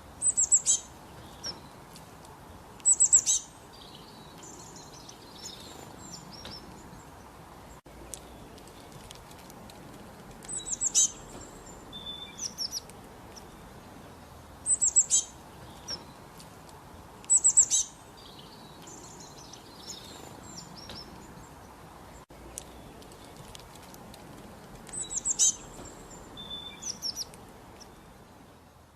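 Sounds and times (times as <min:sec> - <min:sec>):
songbirds chirping: 0:00.0 - 0:28.9.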